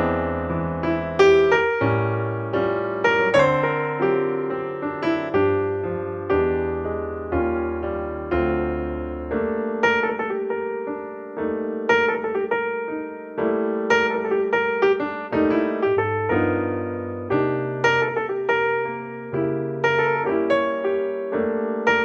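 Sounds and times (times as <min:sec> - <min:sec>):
slow piano piece: 0:00.0 - 0:22.0.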